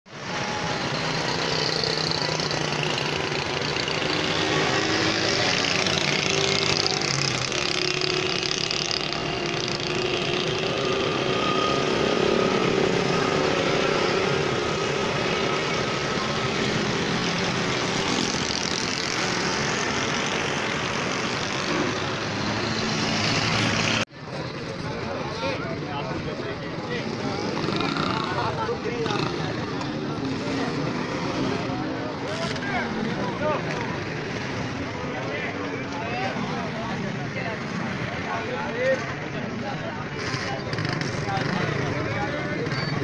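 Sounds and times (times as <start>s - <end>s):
road traffic engines: 0.1s - 43.0s.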